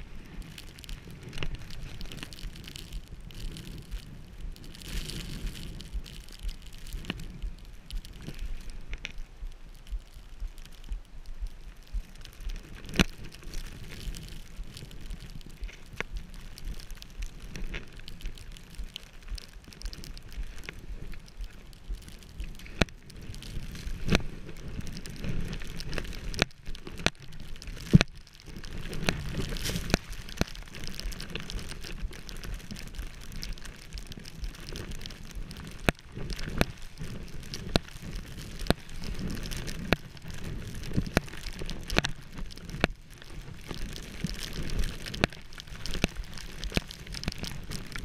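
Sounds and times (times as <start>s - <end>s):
skis hissing through powder snow: 0.0s - 26.8s, 27.4s - 42.4s
ski clicks and knocks: 0.0s - 48.0s.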